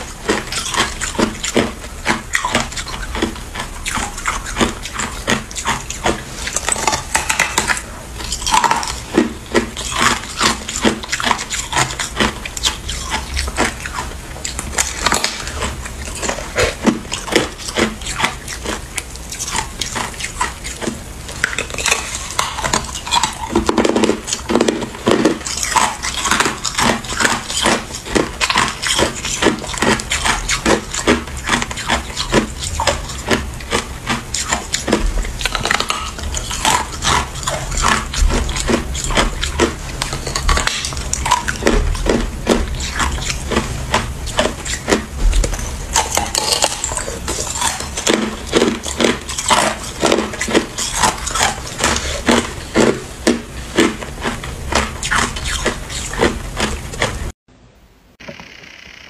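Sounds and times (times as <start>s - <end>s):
ice crunching while chewed: 0.0s - 57.4s.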